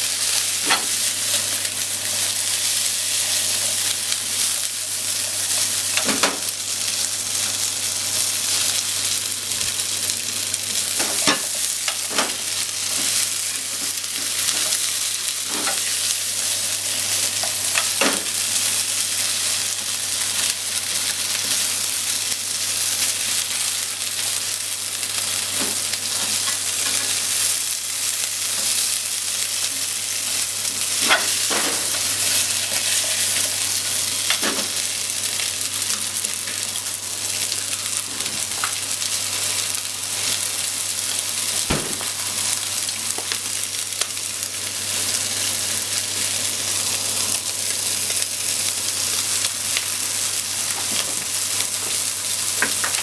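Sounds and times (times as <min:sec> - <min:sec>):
fish and potatoes sizzling in a pan: 0:00.0 - 0:53.0.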